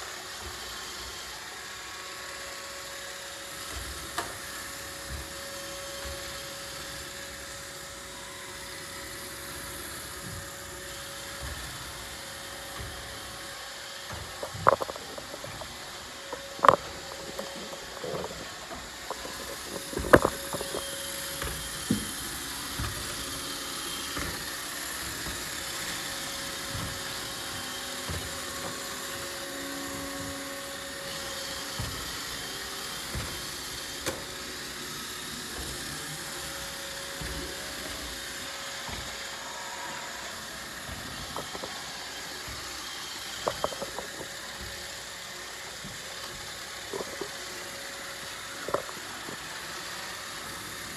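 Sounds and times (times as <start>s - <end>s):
robot vacuum motor whirring: 0.0s - 50.9s
vacuum brushes brushing: 0.0s - 50.9s.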